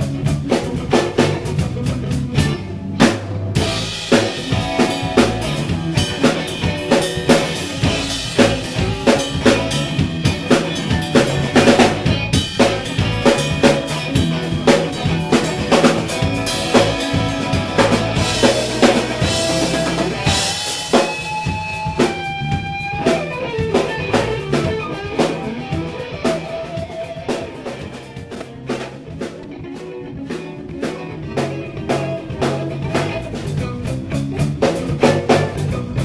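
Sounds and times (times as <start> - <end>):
bass line: 0.0 - 36.0
drum hits: 0.0 - 36.0
electric guitar: 0.0 - 36.0.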